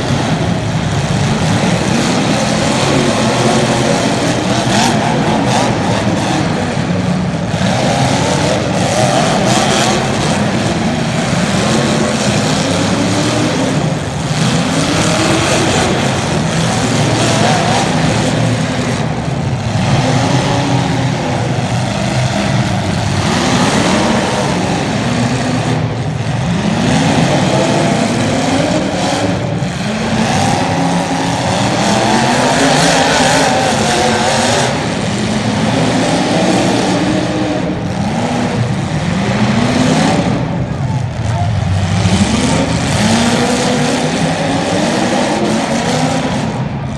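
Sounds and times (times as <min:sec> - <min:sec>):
race car engines accelerating: 0:00.0 - 0:46.9.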